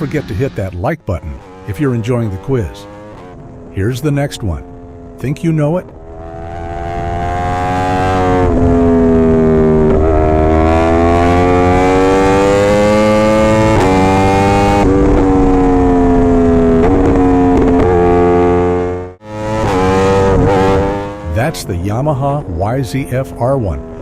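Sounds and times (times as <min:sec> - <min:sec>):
motorcycle engine revving through gears: 0:00.0 - 0:24.0.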